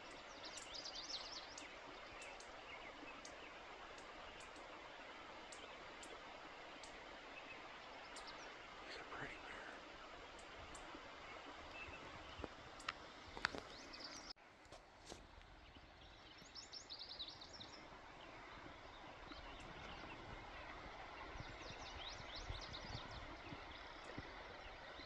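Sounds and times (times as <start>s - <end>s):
songbird high chirps: 0.0s - 14.4s, 15.6s - 25.0s.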